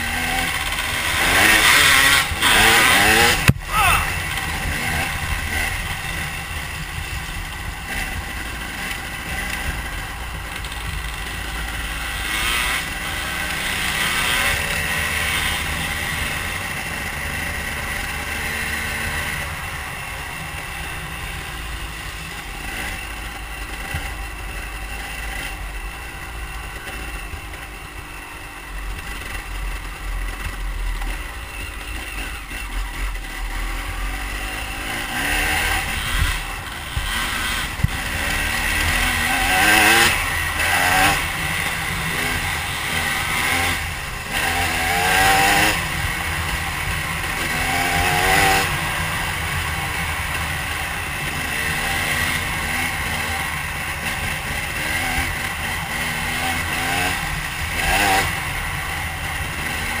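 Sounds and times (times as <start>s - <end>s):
dirt bike engine revving: 0.0s - 28.2s, 29.0s - 60.0s.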